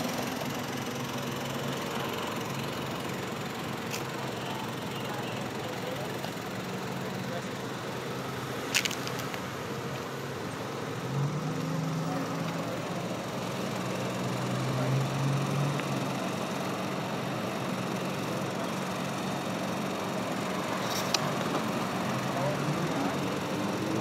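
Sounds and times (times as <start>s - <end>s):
traffic noise: 0.0s - 24.0s
vehicle engine running at low revs: 0.0s - 24.0s.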